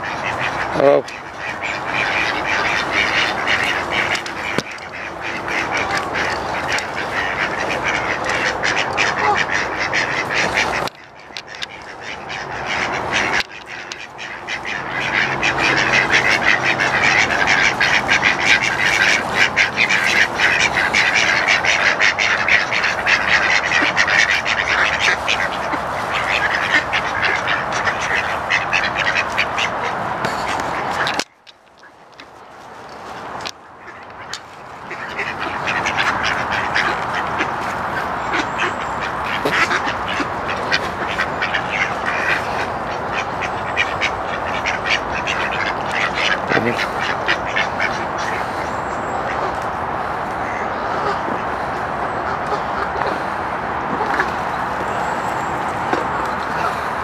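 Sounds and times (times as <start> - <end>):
ducks quacking: 0.0 - 57.0.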